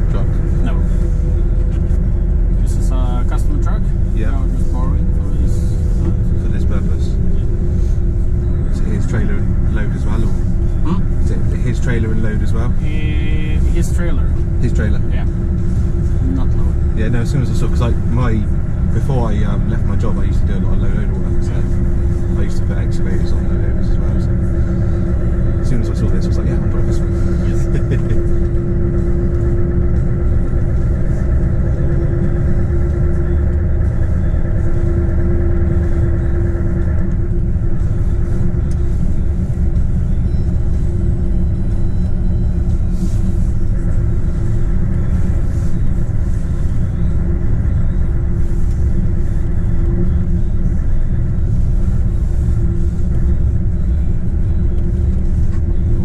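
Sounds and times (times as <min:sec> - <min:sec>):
constant hum: 0:00.0 - 0:56.0
truck engine and road rumble: 0:00.0 - 0:56.0.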